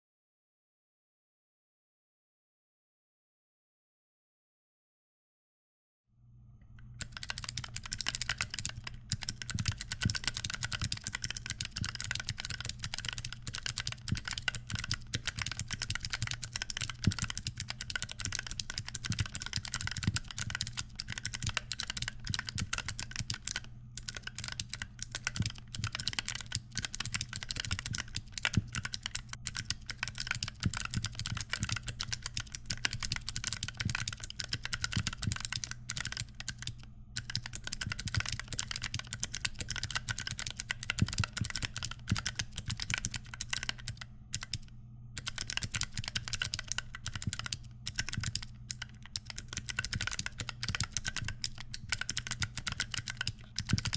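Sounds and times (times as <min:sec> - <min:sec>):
steady low hum: 0:06.2 - 0:53.9
fast typing on mechanical keyboard: 0:07.0 - 0:53.9.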